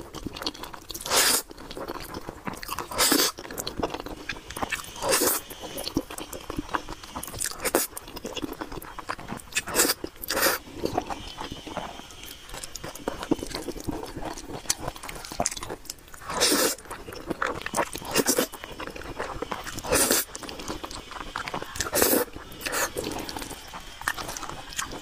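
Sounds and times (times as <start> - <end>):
wet chewing with mouth clicks: 0.0 - 25.0
person slurping noodles: 1.0 - 1.5, 2.6 - 25.0.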